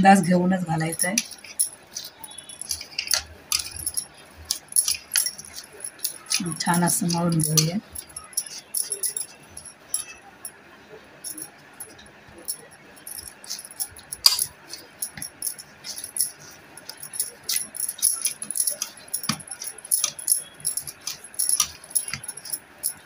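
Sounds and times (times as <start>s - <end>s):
hands kneading dough on steel plate: 0.8s - 10.2s, 11.2s - 23.0s
light clinks and taps: 0.8s - 10.6s, 11.2s - 23.0s.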